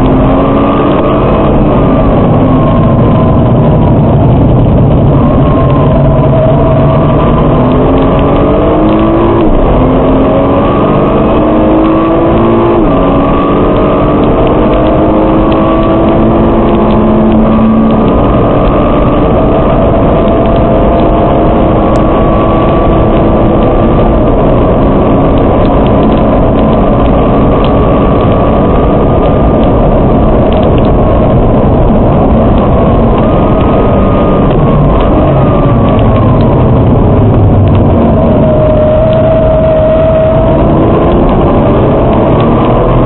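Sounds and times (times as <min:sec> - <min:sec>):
car engine at speed: 0:00.0 - 0:43.0
road and wind noise: 0:00.0 - 0:43.0.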